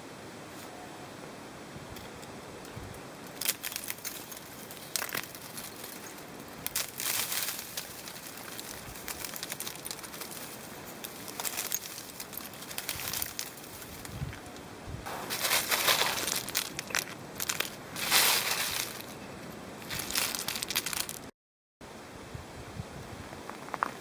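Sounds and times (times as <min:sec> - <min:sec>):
icy twigs crackling and clinking: 0:02.0 - 0:21.3.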